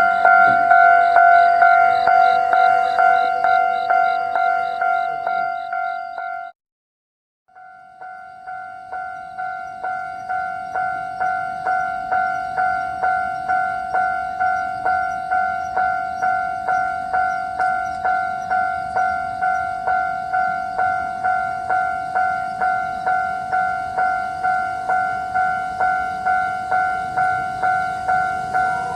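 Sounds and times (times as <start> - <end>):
level-crossing warning bell: 0.0 - 6.6, 7.5 - 28.9.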